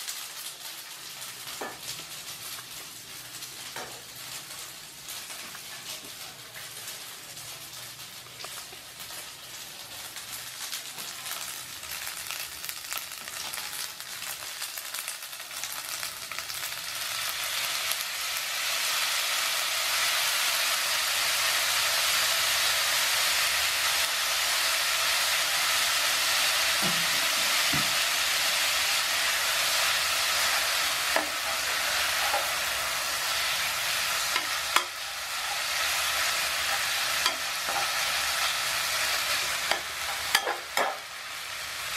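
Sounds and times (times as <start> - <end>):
noodles sizzling in a frying pan: 0.0 - 41.9.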